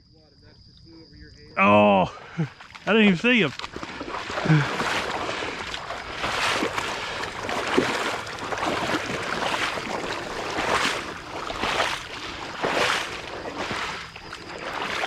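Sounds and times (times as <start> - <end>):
dog swimming and splashing: 2.6 - 15.0.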